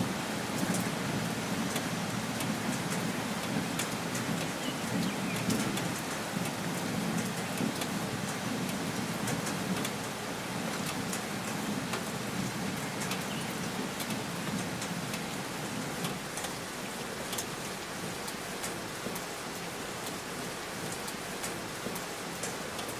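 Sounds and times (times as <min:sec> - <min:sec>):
rain on wooden deck: 0:00.0 - 0:22.9.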